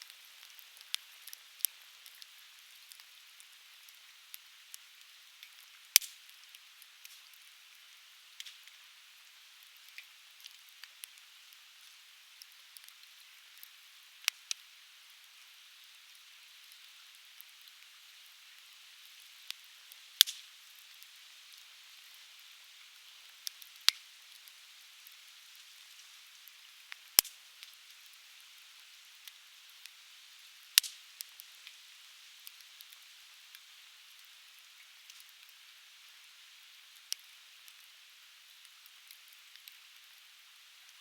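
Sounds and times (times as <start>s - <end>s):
firewood crackling and popping: 0.0s - 15.9s, 16.6s - 35.6s, 36.9s - 41.0s.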